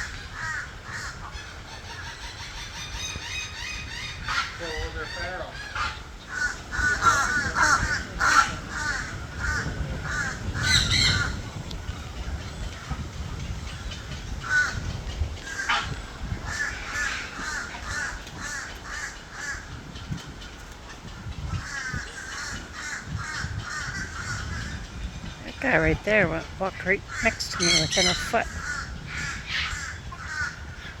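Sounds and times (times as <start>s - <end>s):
group of birds calling: 0.0s - 31.0s.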